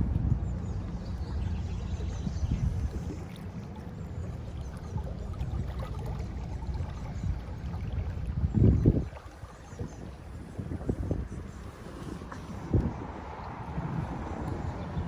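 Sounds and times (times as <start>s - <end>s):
water lapping against boat hull: 0.0s - 15.0s
wind rumbling on microphone: 0.0s - 15.0s.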